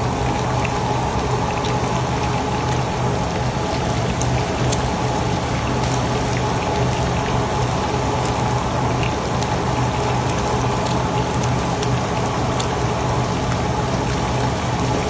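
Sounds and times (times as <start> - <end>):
steady low hum: 0.0 - 15.0
fish sizzling in hot oil: 0.2 - 15.0.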